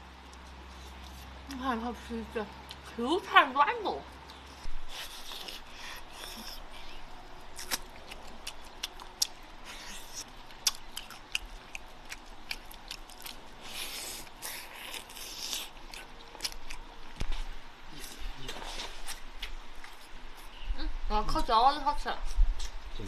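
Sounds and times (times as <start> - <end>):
wet chewing and lip smacks: 0.1 - 1.6, 2.5 - 3.0, 4.2 - 20.5, 22.6 - 22.9.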